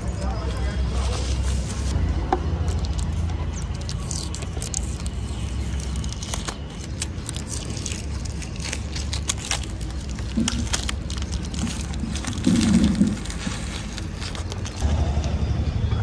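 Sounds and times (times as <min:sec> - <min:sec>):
plastic film peeling and crinkling: 0:00.0 - 0:02.0, 0:02.6 - 0:14.9.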